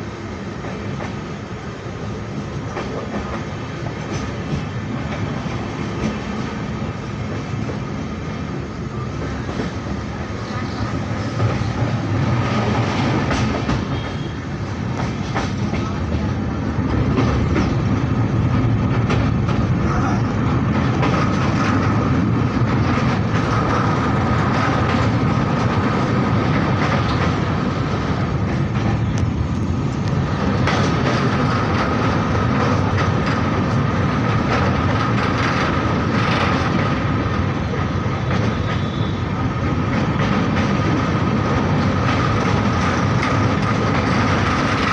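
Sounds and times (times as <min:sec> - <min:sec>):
train rumbling over iron bridge: 0:00.0 - 0:44.9
wheels clacking over rail joints: 0:08.9 - 0:44.9.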